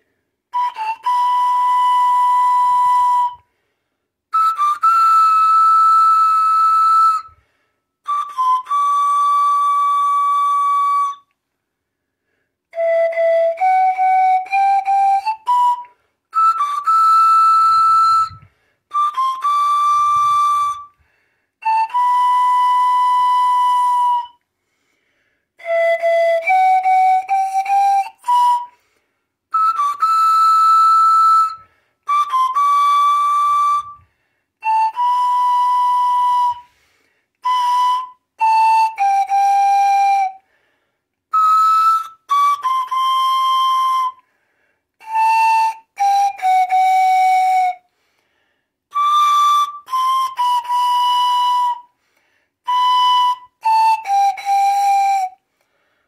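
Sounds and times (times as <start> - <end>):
pan flute: 0.5 - 3.6, 4.3 - 11.4, 12.6 - 24.5, 25.6 - 40.5, 41.3 - 44.4, 45.0 - 48.0, 48.9 - 52.0, 52.6 - 55.5.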